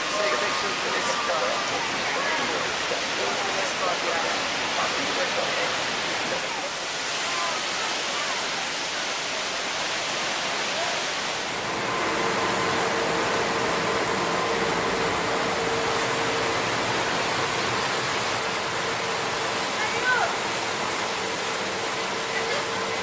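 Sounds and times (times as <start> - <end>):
steady hum: 0.0 - 7.2, 9.6 - 23.0
waterfall roar: 0.0 - 23.0.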